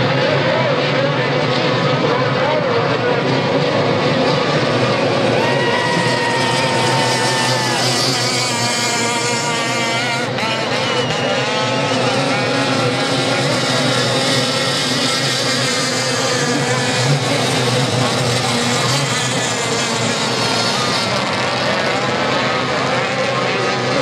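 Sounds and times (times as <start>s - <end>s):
racing outboard engines whining: 0.0s - 24.0s.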